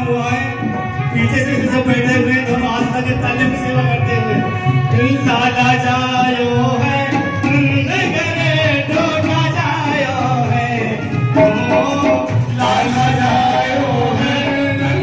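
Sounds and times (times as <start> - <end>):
accompanying instruments: 0.0 - 15.0
steady percussion beat: 0.0 - 15.0.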